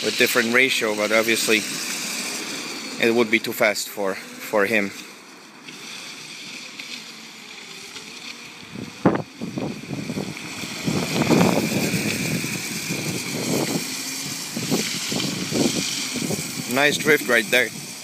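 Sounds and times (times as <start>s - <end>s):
electric go-kart motor whir: 0.0s - 18.0s
tyre noise on asphalt: 0.0s - 18.0s.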